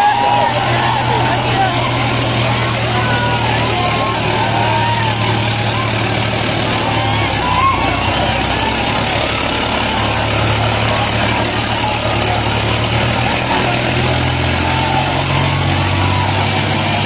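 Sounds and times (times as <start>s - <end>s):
tractor diesel engines droning: 0.0s - 17.0s.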